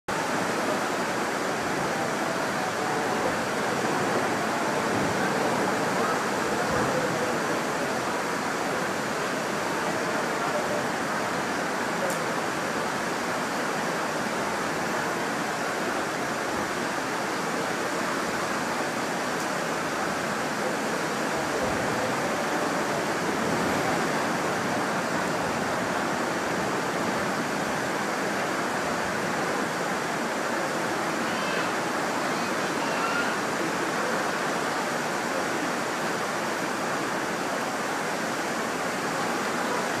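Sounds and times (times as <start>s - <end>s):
rushing water current: 0.1s - 40.0s.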